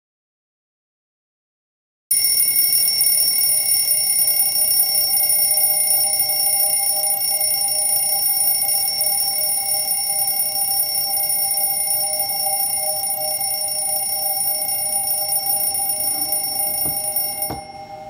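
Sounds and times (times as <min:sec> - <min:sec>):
alarm clock ringing: 0:02.1 - 0:18.0.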